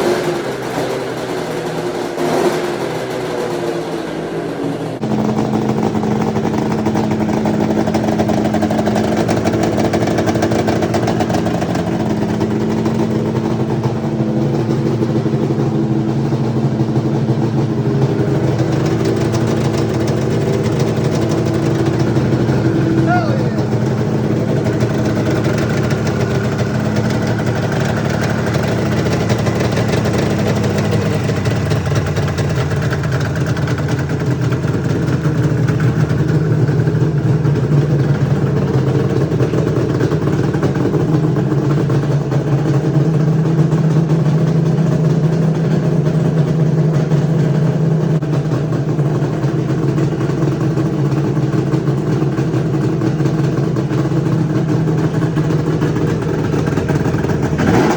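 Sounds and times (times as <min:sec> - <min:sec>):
snowmobile engine idling: 0:00.0 - 0:57.9.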